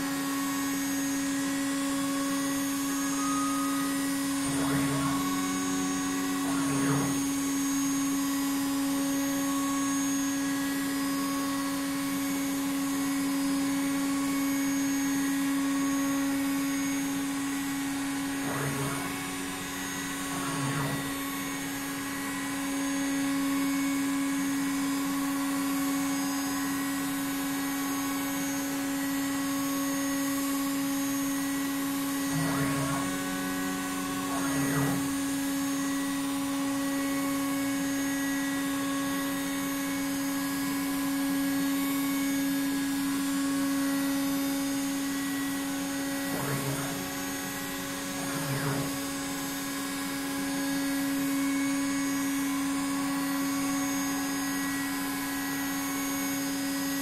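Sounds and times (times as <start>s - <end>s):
gantry motors whining: 0.0s - 57.0s
spindle motor humming: 0.0s - 57.0s.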